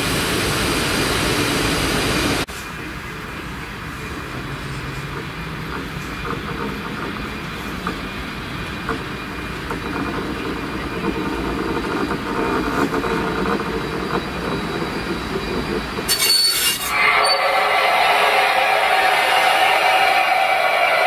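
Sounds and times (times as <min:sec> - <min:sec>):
electric train rolling: 0:00.0 - 0:21.0.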